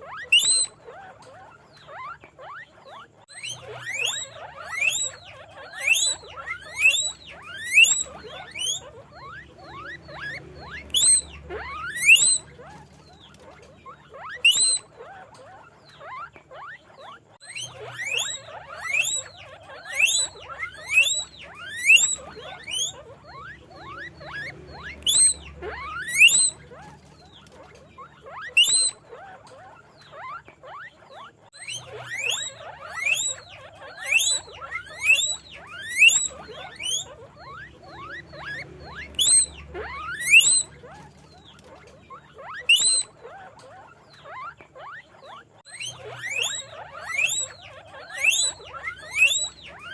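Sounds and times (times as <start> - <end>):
guinea pigs chattering: 0.0 - 49.9
guinea pigs wheeking: 0.0 - 49.9.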